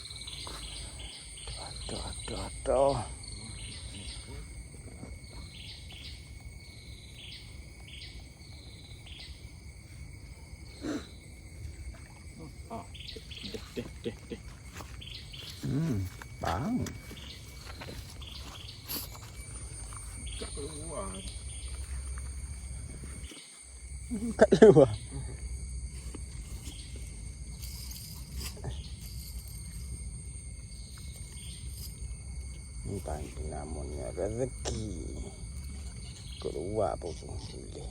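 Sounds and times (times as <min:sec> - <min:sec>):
insects chirping: 0:00.0 - 0:37.9.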